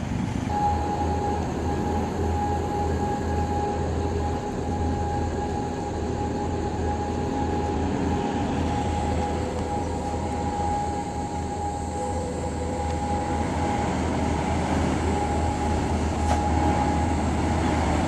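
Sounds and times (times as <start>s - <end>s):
high engine whine: 0.0s - 18.0s.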